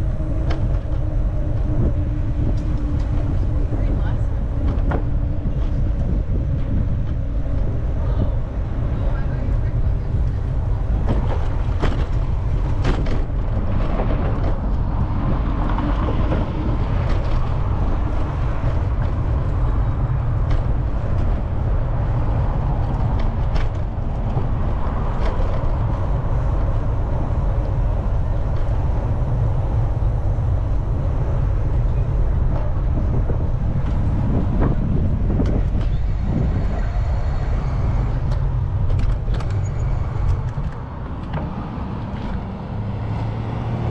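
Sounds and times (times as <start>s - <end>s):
street traffic rumble: 0.0s - 43.9s.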